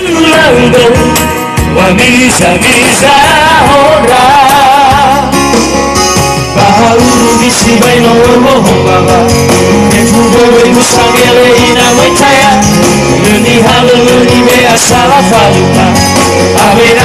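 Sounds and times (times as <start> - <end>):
male vocal trio singing: 0.0 - 5.6, 6.5 - 17.0
electronic keyboard accompaniment: 0.0 - 17.0.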